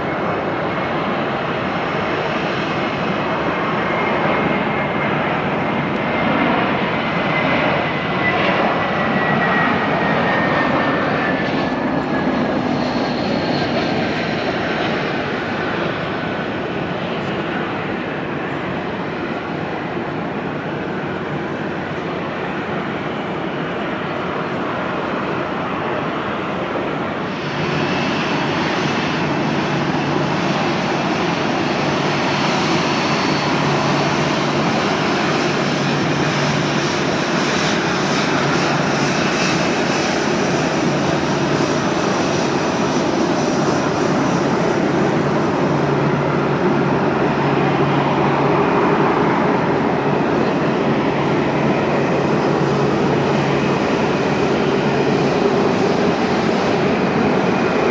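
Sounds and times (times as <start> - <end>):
jet engines running: 0.0 - 57.9.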